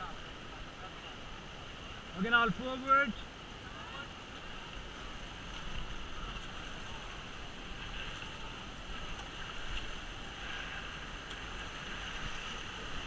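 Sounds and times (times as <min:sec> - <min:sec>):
paddling: 0:00.0 - 0:13.0
river water rushing: 0:00.0 - 0:13.0.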